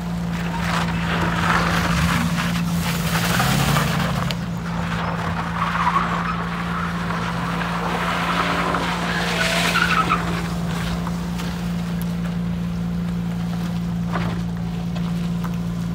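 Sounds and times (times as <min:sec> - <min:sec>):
car engine running hard: 0:00.0 - 0:15.9
tyres scrabbling on gravel: 0:00.0 - 0:15.9.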